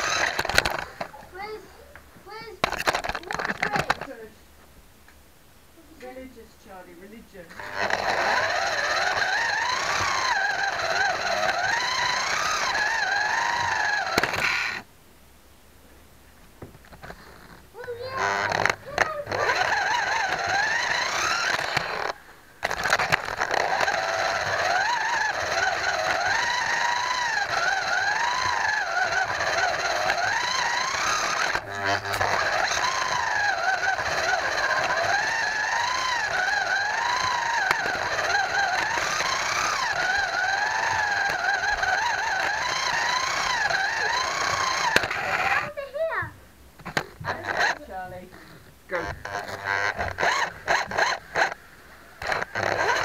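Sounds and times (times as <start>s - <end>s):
slot car electric motor whining: 0.0s - 4.2s, 7.4s - 14.9s, 17.0s - 53.0s.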